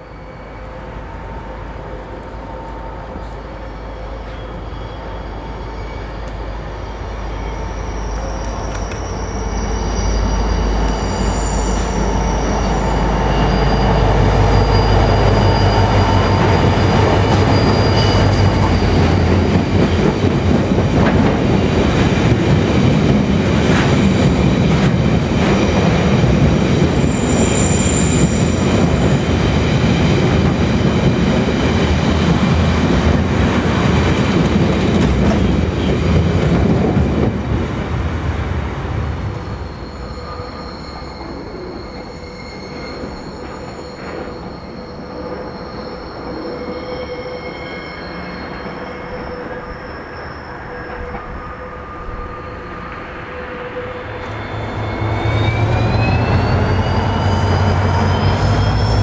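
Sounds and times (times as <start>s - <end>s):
diesel locomotive passing: 0.0s - 59.0s
high wheel squeal: 3.1s - 21.5s, 23.6s - 37.0s, 39.2s - 59.0s.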